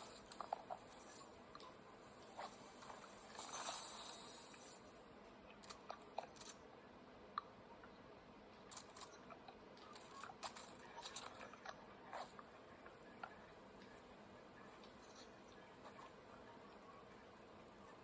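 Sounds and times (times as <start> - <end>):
faint small clicks and crackles: 0.0 - 18.0.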